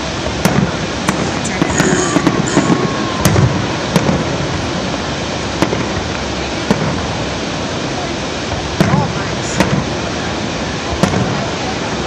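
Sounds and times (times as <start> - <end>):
distant fireworks bangs: 0.0 - 12.0
steady rushing background noise: 0.0 - 12.0.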